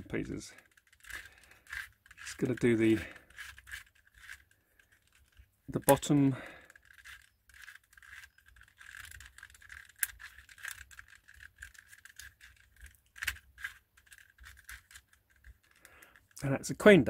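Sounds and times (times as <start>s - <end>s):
plastic puzzle pieces clicking: 0.0s - 16.4s.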